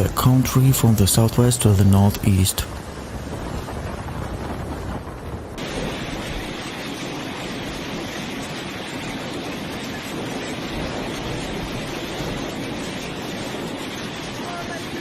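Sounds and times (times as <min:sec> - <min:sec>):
heavy precipitation: 0:00.0 - 0:15.0
wind buffeting microphone: 0:00.0 - 0:15.0
wind rushing: 0:00.0 - 0:15.0.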